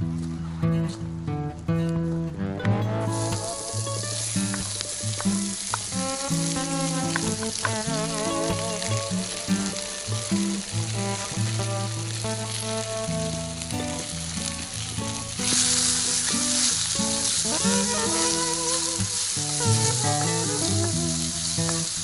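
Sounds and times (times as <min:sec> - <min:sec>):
background music: 0:01.9 - 0:22.0
fried rice sizzling in a pan: 0:03.1 - 0:22.0.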